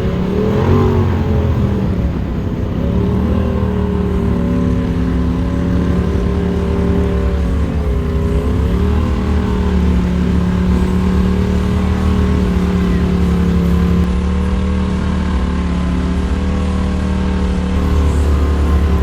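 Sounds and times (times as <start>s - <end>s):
utility vehicle engine under load: 0.0s - 19.0s.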